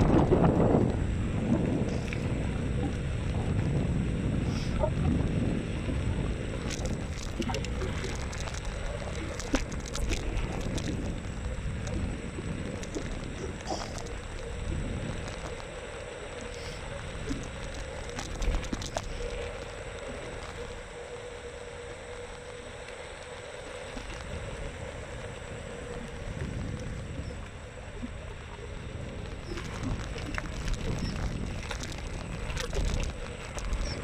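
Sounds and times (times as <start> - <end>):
faint steady whine: 0.0 - 34.0
wind and road rumble: 0.0 - 34.0.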